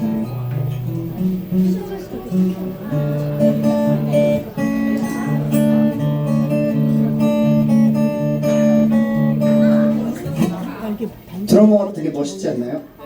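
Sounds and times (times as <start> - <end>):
guitar chords ringing: 0.0 - 11.0.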